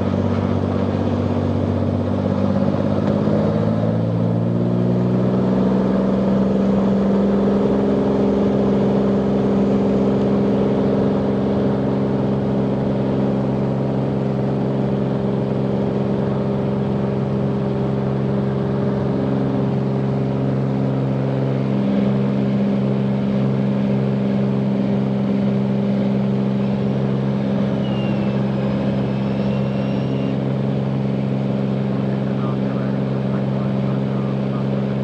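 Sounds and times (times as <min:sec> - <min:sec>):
light aircraft engine drone: 0:00.0 - 0:35.0.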